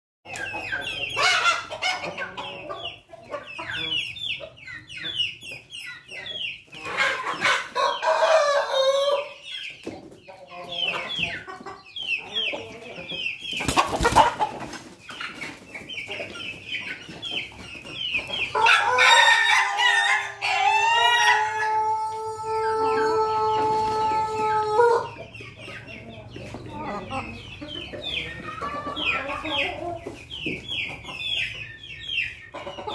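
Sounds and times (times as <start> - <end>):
chicks peeping and clucking: 0.3 - 32.9.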